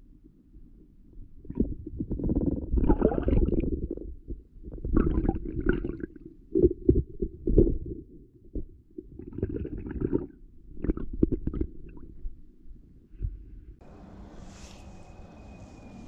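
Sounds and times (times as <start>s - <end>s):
muffled underwater water rumble: 0.0s - 13.8s.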